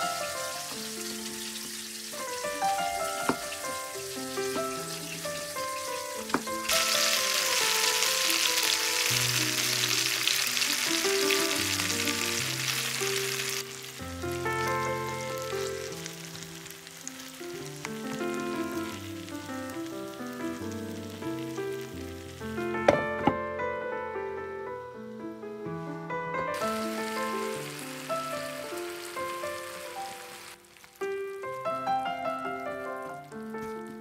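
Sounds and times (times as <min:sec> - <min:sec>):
chicken and onions sizzling in pan: 0:00.0 - 0:23.0, 0:26.5 - 0:34.0
background music: 0:00.0 - 0:24.1, 0:25.8 - 0:30.6.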